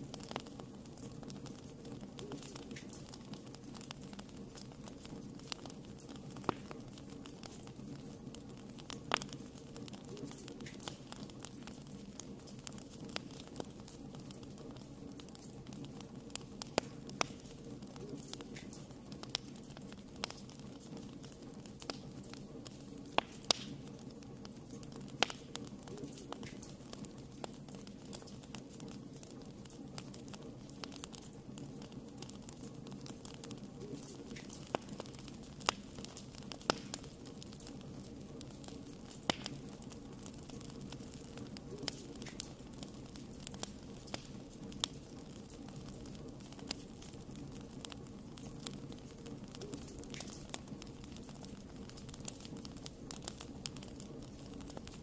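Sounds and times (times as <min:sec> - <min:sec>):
fire pops and crackles: 0:00.0 - 0:55.0
flames rushing: 0:00.0 - 0:55.0.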